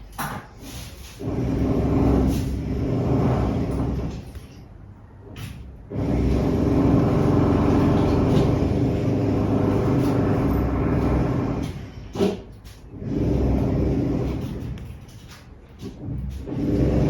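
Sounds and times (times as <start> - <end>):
power tool running with rattle: 1.0 - 4.6, 5.2 - 17.0.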